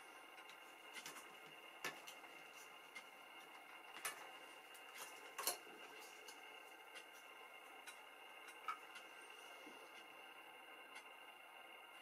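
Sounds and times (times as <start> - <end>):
faint high hum: 0.0 - 12.0.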